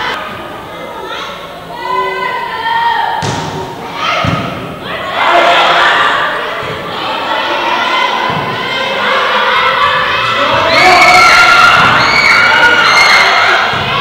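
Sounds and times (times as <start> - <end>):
people shouting and cheering: 0.0 - 14.0.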